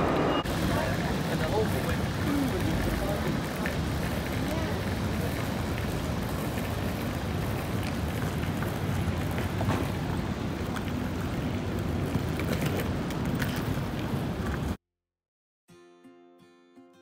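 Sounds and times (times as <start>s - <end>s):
traffic rumble: 0.0s - 14.8s.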